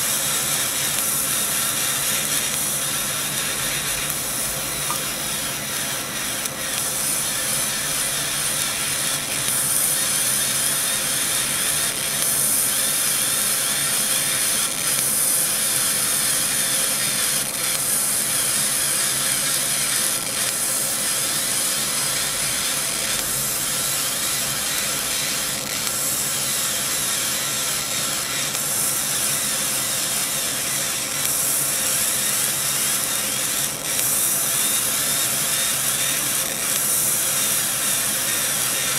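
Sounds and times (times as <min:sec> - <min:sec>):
laser cutter hissing: 0:00.0 - 0:38.9.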